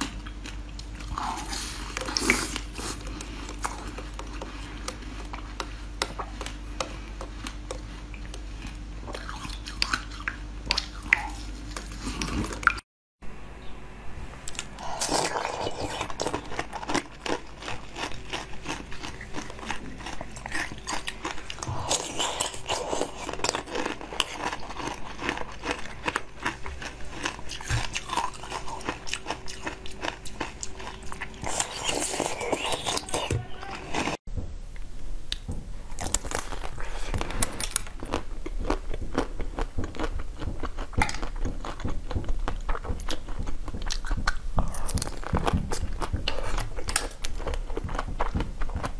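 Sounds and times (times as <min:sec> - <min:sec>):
wet biting and chewing: 0:00.0 - 0:12.8, 0:14.5 - 0:34.2, 0:35.3 - 0:48.9.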